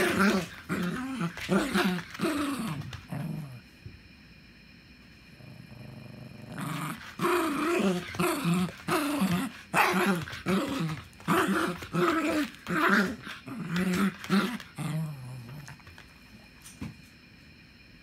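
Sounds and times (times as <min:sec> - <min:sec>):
dog play-growling: 0:00.0 - 0:03.7, 0:05.3 - 0:16.3.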